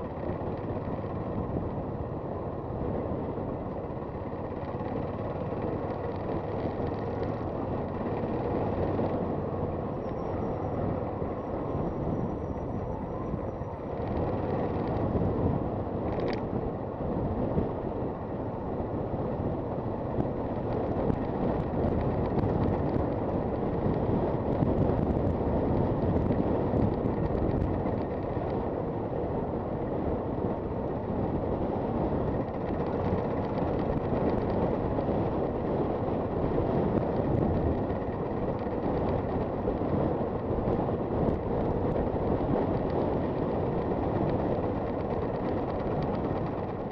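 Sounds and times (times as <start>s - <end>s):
wind rush over microphone: 0.0s - 46.9s.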